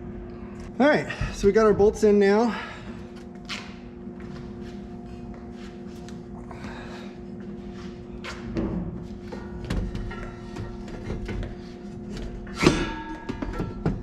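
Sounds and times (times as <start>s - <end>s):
steady background tone: 0.0s - 14.0s.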